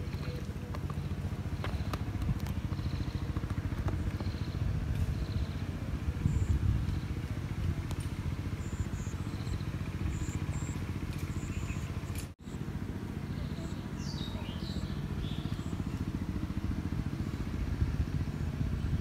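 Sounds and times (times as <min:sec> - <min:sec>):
motor running with pulsing rumble: 0:00.0 - 0:19.0.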